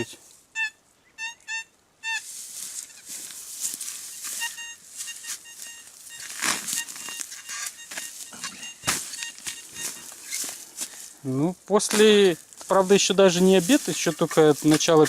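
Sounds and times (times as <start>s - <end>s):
metal detector beeping: 0.6s - 11.1s, 12.0s - 15.0s
steady metal detector tone: 0.6s - 11.1s, 12.3s - 15.0s
crunching and scraping of soil: 2.2s - 15.0s.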